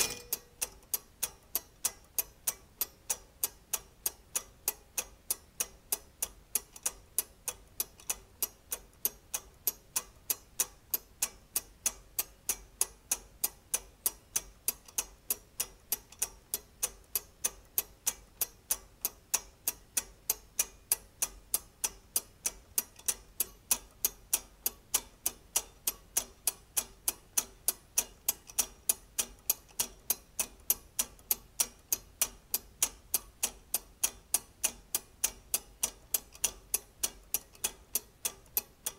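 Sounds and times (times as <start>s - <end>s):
clockwork ticking: 0.0s - 38.9s.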